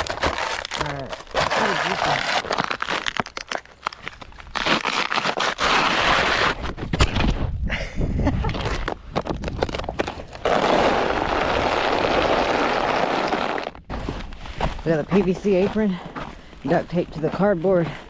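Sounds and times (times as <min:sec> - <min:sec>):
icy ground crunching and cracking: 0:00.0 - 0:07.5, 0:08.2 - 0:18.0.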